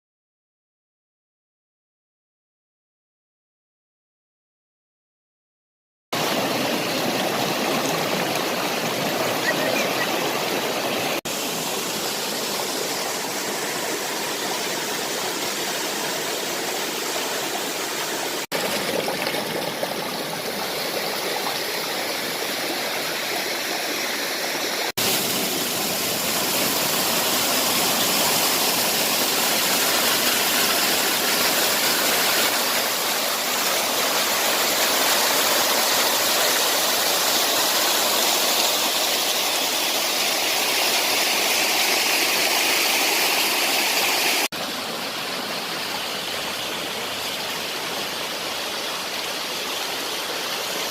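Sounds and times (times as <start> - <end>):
waterfall rushing: 6.2 - 50.9.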